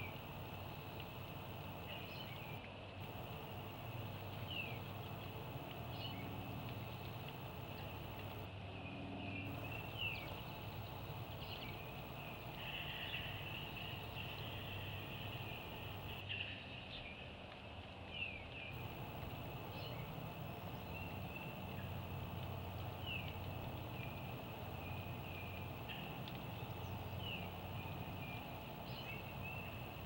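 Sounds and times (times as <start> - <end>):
high-pitched background hum: 0.0 - 8.5, 9.4 - 16.2, 18.8 - 30.0
soft bird chirps: 0.0 - 8.5, 9.5 - 16.2, 18.7 - 30.0.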